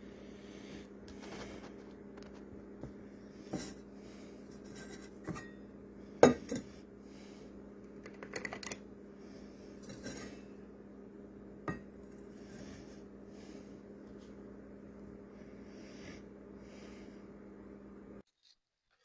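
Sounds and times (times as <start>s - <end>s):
steady low hum: 0.0s - 18.2s.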